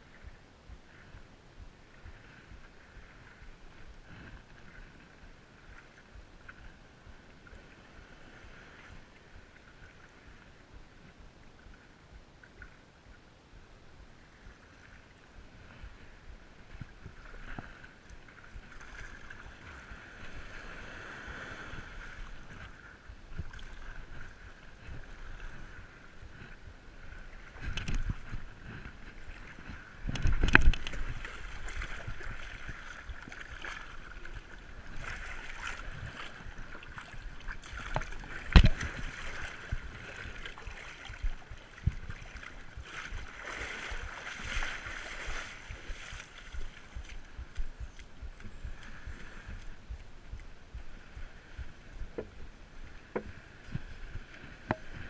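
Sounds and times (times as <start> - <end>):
water splashing around paddleboard: 0.0 - 13.2, 14.1 - 55.0.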